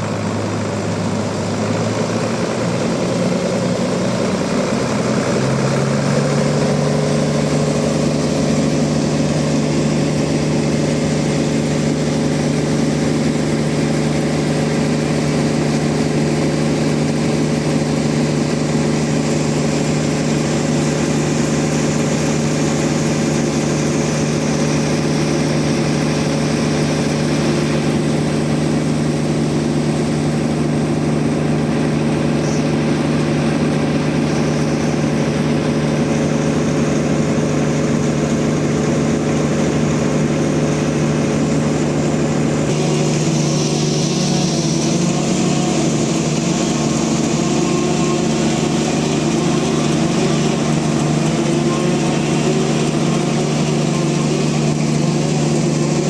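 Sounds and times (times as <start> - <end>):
sawmill machine hum: 0.0 - 56.0.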